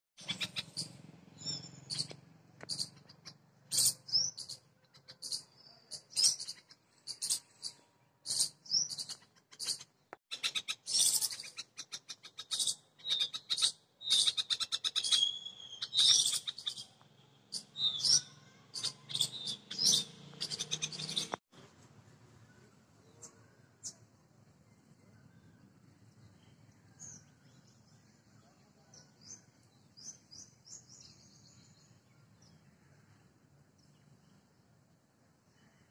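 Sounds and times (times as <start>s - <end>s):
songbirds chirping: 0.2s - 21.4s, 22.1s - 35.9s.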